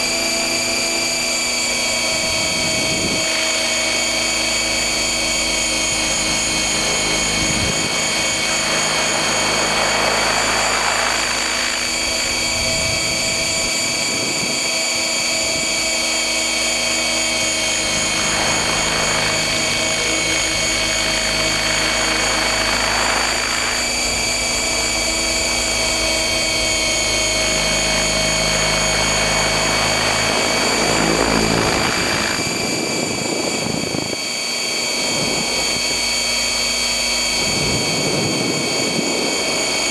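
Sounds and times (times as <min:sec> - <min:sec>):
motor and gear whine: 0:00.0 - 0:39.9
rotor whoosh: 0:00.3 - 0:35.6.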